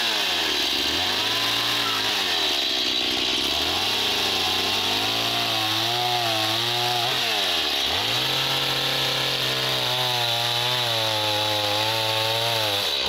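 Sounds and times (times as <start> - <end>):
chainsaw sawing wood: 0.0 - 13.0.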